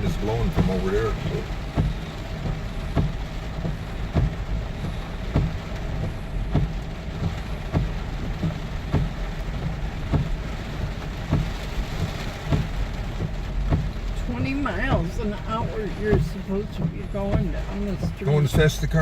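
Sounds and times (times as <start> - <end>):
rain on car: 0.0 - 19.0
road rumble: 0.0 - 19.0
windshield wipers knocking: 0.0 - 19.0.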